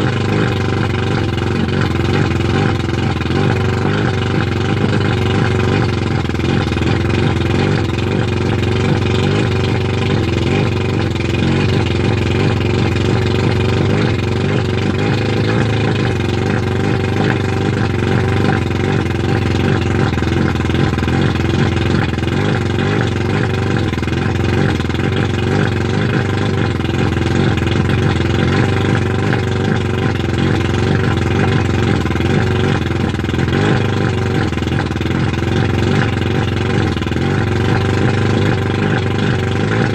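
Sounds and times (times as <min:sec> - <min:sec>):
outboard motor idling fast: 0:00.0 - 0:39.9.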